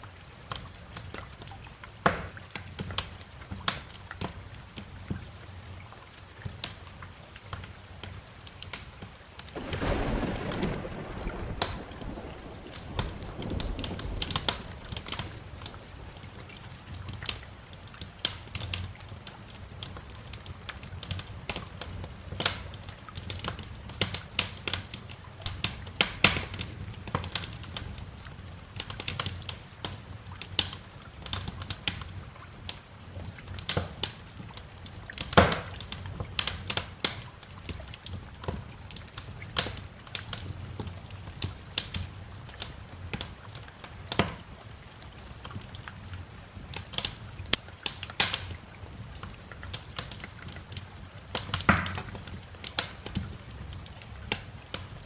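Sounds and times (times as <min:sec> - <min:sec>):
wood fire crackling: 0:00.4 - 0:55.0.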